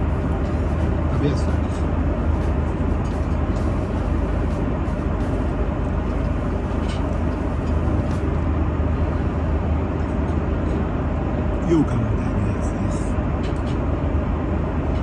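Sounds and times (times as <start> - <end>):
jet engine and airflow rumble: 0.0 - 15.0.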